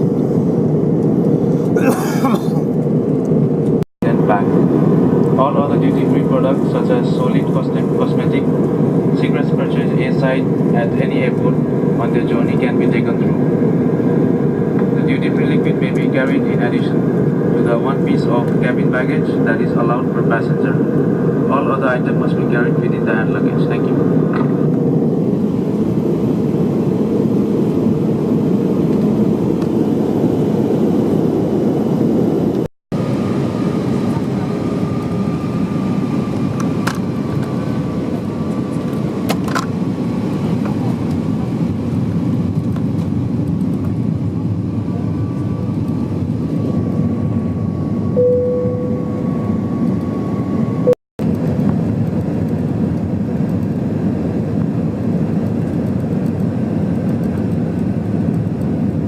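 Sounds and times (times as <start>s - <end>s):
airplane cabin engine rush: 0.0s - 59.0s.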